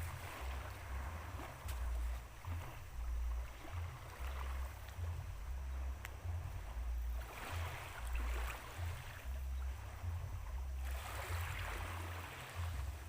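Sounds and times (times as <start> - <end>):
water washing in swells: 0.0 - 13.0
wind rumble on microphone: 0.0 - 13.0.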